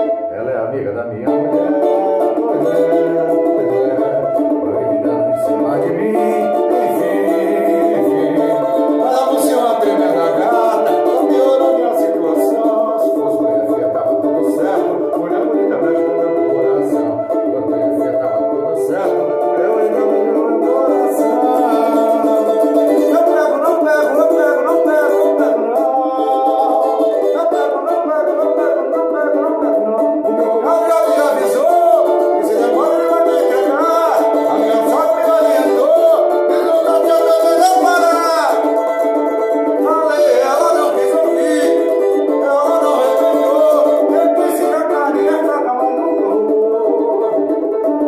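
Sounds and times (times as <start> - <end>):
banjo strumming samba: 0.0 - 48.0.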